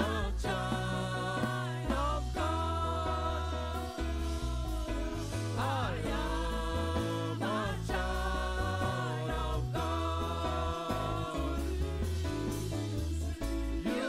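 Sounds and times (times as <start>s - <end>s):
band with held bass notes: 0.0s - 14.0s
group of singers: 0.0s - 14.0s.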